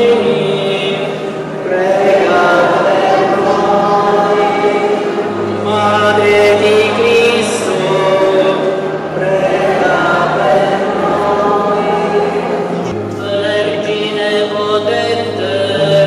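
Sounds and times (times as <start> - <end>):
choir singing a chant: 0.0 - 16.0.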